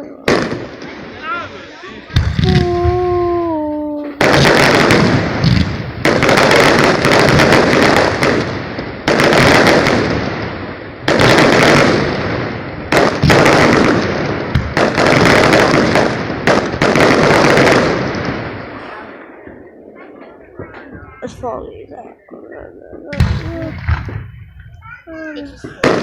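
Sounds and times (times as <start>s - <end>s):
fireworks banging and crackling: 0.0s - 26.0s.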